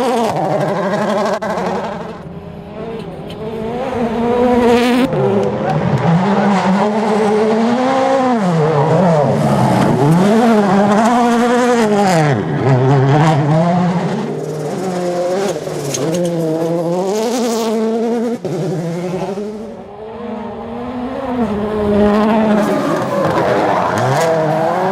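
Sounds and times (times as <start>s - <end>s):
rally car engine revving: 0.0s - 24.9s.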